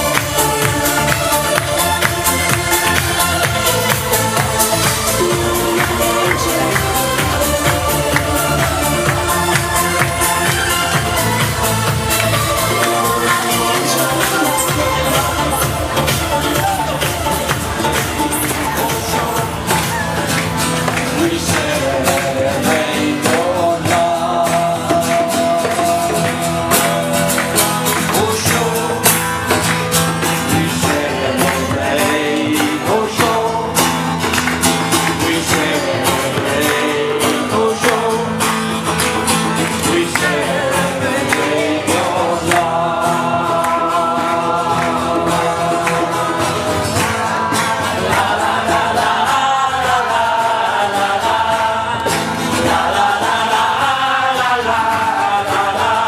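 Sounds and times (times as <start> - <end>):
guitar: 0.0 - 56.0
percussion with steady beat: 0.0 - 56.0
person singing: 0.0 - 56.0.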